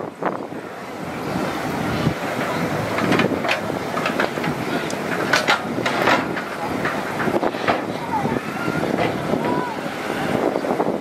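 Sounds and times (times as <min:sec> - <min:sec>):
machinery rumble: 0:00.0 - 0:11.0.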